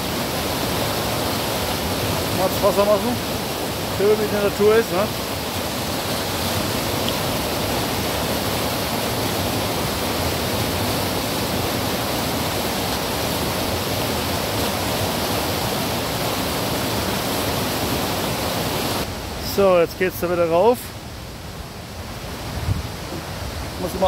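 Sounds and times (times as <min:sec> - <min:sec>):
river rushing over boulders: 0:00.0 - 0:24.0.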